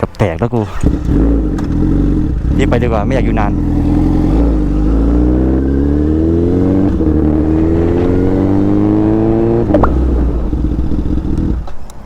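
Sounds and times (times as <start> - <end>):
motorcycle engine accelerating: 0.6 - 11.8.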